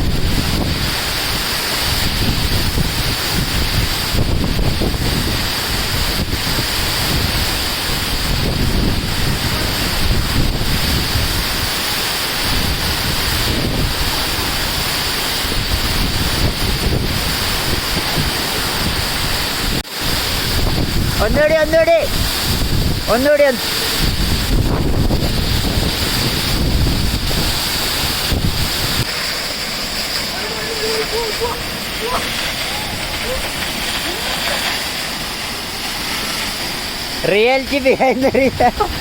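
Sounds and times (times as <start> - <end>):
wind buffeting microphone: 0.0 - 29.2, 30.2 - 39.0
waterfall rushing: 0.0 - 39.0.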